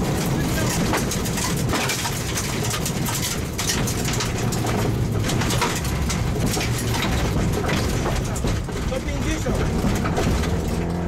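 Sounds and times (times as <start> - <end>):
car engine running hard: 0.0 - 11.0
road noise: 0.0 - 11.0
road surface knocks: 0.0 - 11.0.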